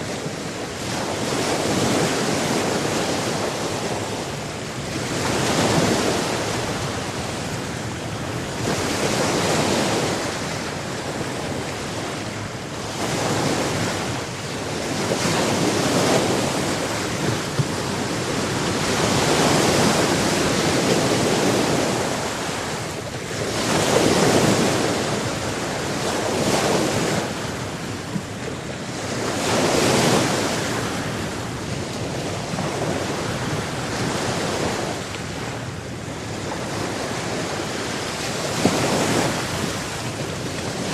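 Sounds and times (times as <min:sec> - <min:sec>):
waves breaking on shore: 0:00.0 - 0:40.9
wind on microphone: 0:00.0 - 0:40.9.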